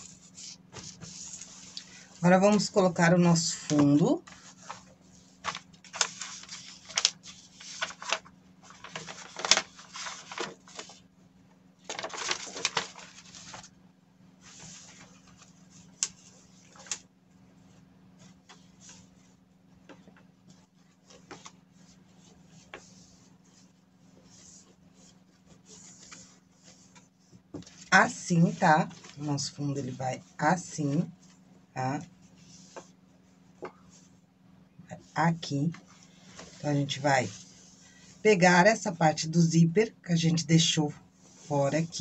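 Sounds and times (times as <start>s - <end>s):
paper and cloth rustling: 0.0s - 11.1s, 11.8s - 13.8s, 14.4s - 34.2s, 35.3s - 39.0s.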